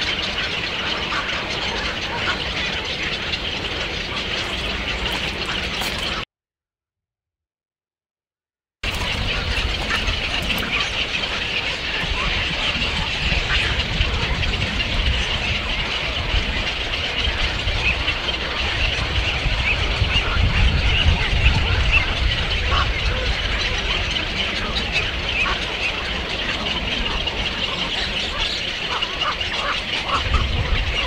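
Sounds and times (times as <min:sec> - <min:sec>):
small birds chattering: 0:00.0 - 0:06.2, 0:08.8 - 0:31.0
steady low rumble: 0:00.0 - 0:06.2, 0:08.8 - 0:28.8.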